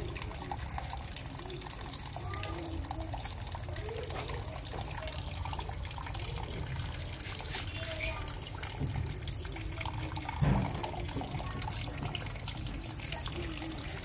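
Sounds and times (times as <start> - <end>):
water trickling into plastic tub: 0.0 - 14.0.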